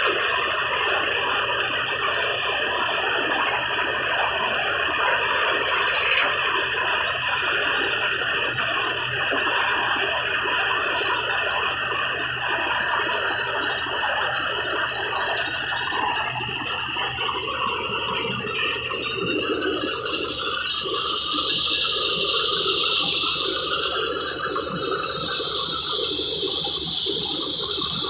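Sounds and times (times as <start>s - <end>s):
concrete mixer engine drone: 0.0s - 28.0s
continuous machine rattle: 0.0s - 28.0s.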